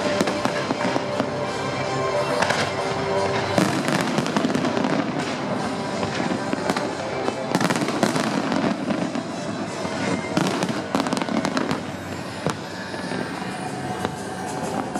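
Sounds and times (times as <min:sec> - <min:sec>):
fireworks sharp bangs: 0:00.0 - 0:01.6, 0:02.4 - 0:14.9
fireworks crackling and popping: 0:00.0 - 0:14.9.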